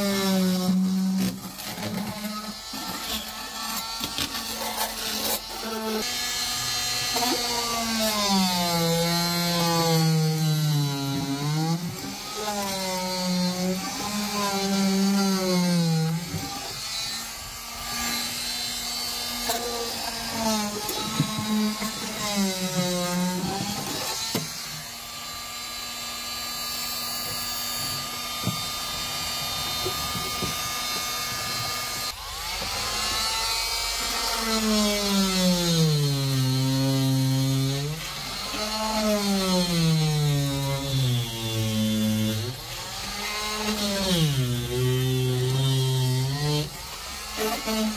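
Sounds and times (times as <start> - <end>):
oscillating multi-tool scraping rubber: 0.0 - 47.9.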